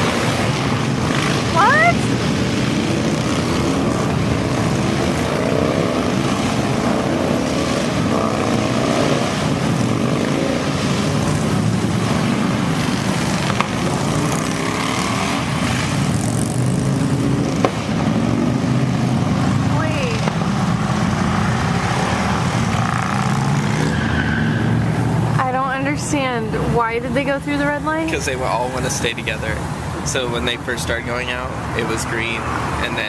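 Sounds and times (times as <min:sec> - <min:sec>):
motorcycles riding past: 0:00.0 - 0:33.0.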